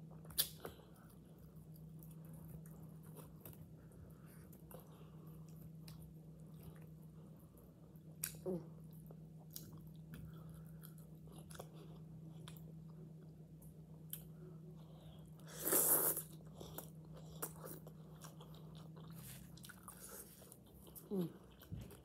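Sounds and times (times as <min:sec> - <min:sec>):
chewing vegetables: 0:00.0 - 0:22.0
low steady hum: 0:00.0 - 0:22.0.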